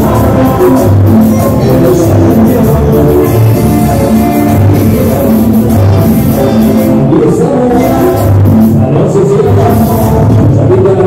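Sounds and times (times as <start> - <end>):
loud dance music: 0.0 - 11.0.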